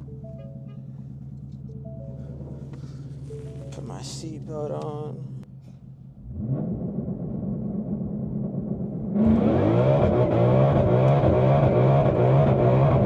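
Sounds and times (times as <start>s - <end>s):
car engine at full throttle: 0.0s - 13.0s.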